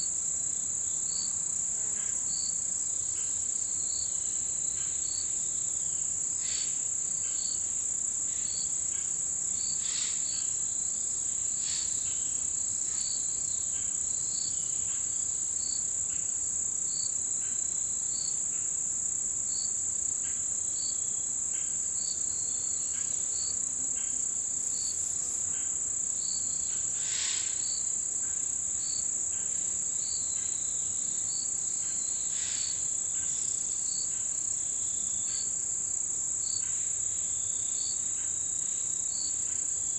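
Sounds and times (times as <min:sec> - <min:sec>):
insect chirps: 0:00.0 - 0:39.9
sharp insect calls: 0:00.0 - 0:39.9
insects trilling: 0:00.1 - 0:39.9.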